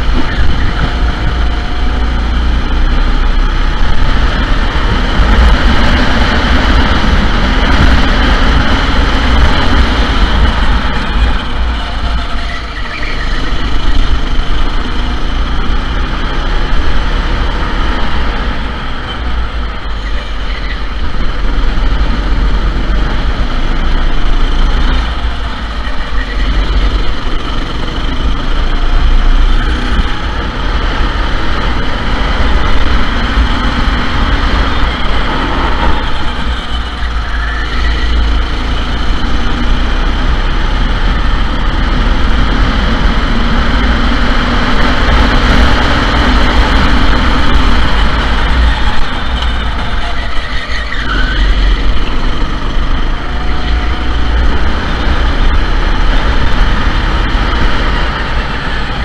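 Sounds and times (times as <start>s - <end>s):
go-kart engines running: 0.0s - 59.0s.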